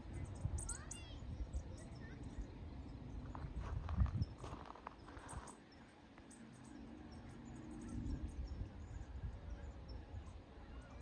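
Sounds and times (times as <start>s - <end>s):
wind rumble on microphone: 0.0s - 5.6s, 7.0s - 11.0s.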